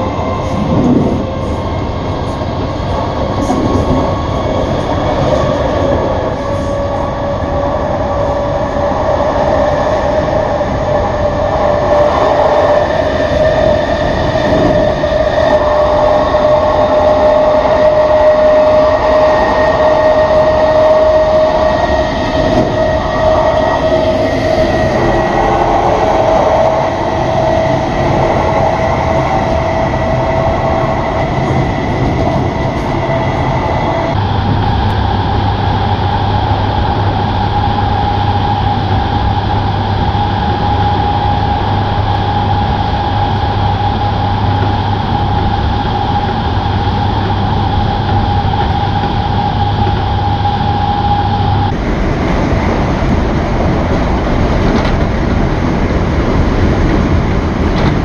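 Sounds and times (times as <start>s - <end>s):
electric train whine: 0.0s - 58.0s
train rolling noise: 0.0s - 58.0s.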